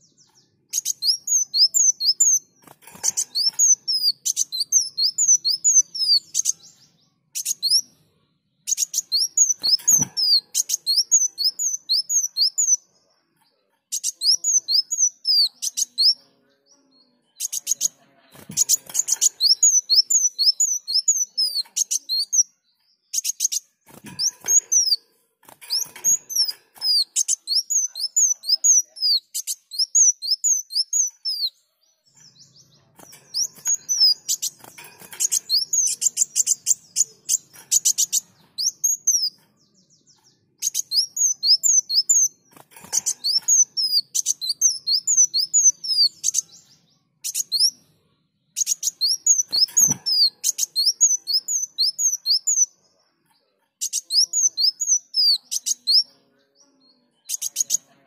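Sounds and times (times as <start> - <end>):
sunbird singing: 0.0 - 47.8, 48.5 - 52.8, 53.8 - 58.0.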